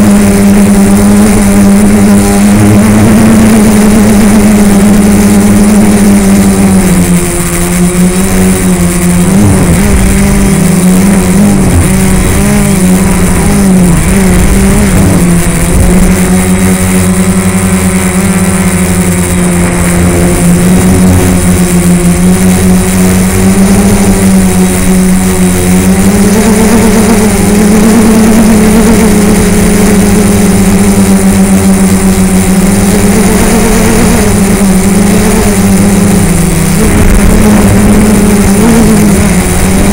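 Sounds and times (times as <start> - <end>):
drone motors and propellers droning: 0.0 - 39.9.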